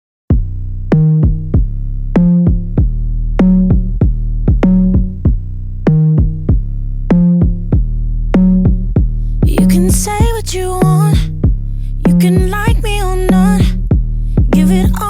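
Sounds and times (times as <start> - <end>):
drum machine beat: 0.3 - 15.0.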